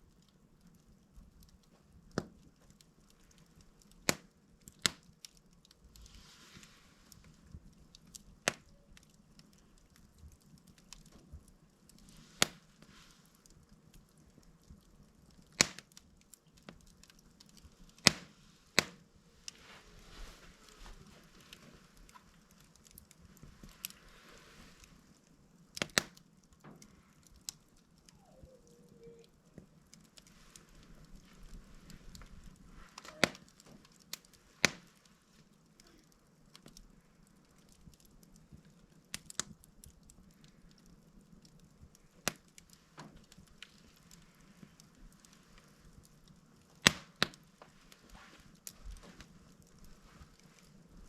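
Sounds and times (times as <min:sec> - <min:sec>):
log fire crackling and popping: 0:00.0 - 0:51.0
faint hiss: 0:05.7 - 0:51.0.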